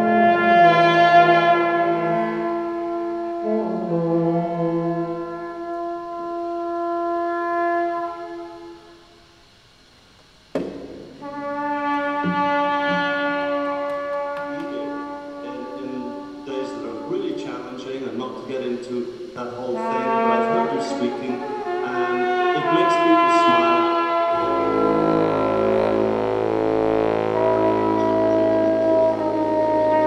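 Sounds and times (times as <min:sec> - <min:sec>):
long held instrumental tones: 0:00.0 - 0:30.0.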